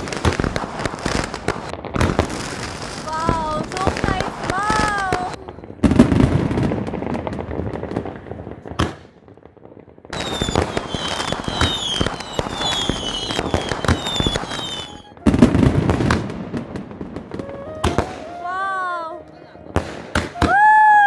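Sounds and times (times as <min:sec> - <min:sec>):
fireworks falling whistles: 0:00.0 - 0:06.7, 0:10.1 - 0:21.0
fireworks crackling and popping: 0:00.0 - 0:21.0.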